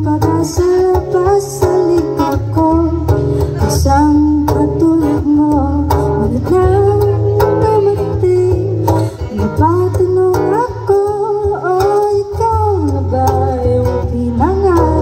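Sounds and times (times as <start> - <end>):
strummed acoustic guitar: 0.0 - 15.0
woman singing into a microphone: 0.0 - 15.0.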